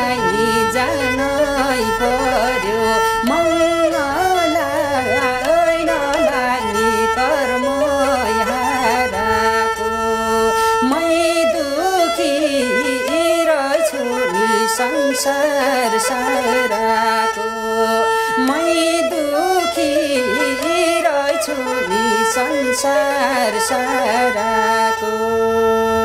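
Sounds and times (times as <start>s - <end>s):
man singing: 0.0s - 25.9s
bowed fiddle melody: 0.0s - 26.0s.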